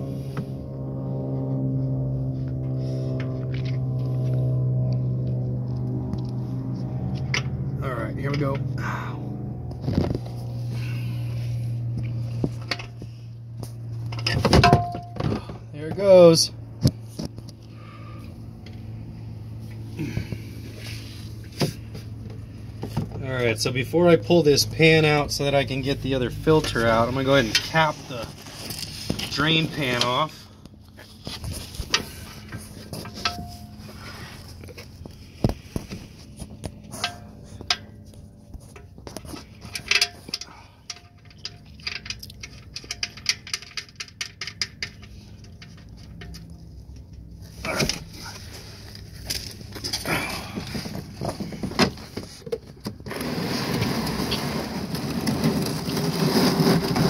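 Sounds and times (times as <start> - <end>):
steady low hum: 0.0 - 53.5.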